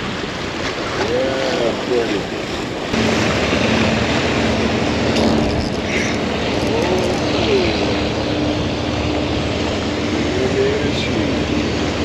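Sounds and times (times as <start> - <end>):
surf: 0.0 - 12.0
wind: 0.0 - 12.0
motor humming: 1.6 - 12.0.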